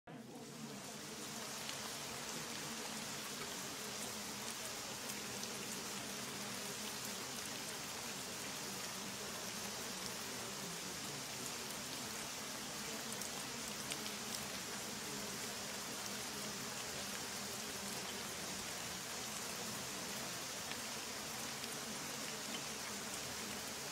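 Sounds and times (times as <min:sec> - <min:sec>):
steady rain falling: 0:00.1 - 0:23.9.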